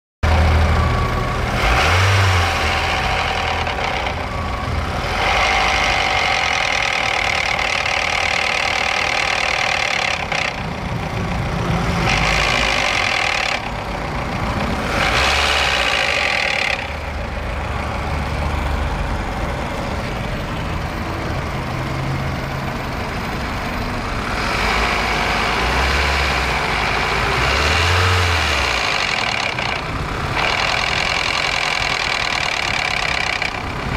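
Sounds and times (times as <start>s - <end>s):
car engine revving: 0.2s - 33.9s
engine knocking: 0.2s - 33.9s.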